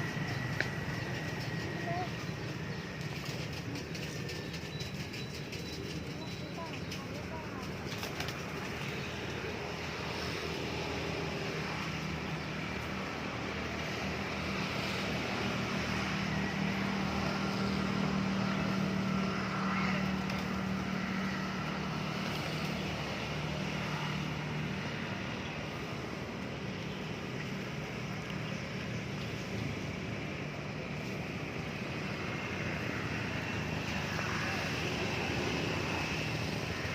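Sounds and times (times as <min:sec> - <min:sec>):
outdoor background noise: 0:00.0 - 0:36.9
vehicle engine humming: 0:00.0 - 0:36.9.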